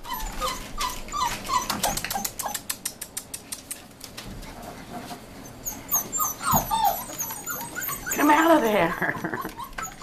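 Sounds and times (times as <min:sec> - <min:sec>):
puppies whimpering: 0:00.0 - 0:02.7, 0:04.6 - 0:10.0.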